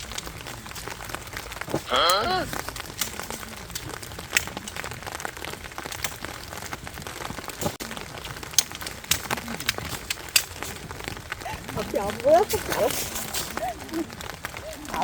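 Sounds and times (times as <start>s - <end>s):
rain hissing on tent: 0.0s - 15.0s
raindrops tapping on fabric: 0.0s - 15.0s.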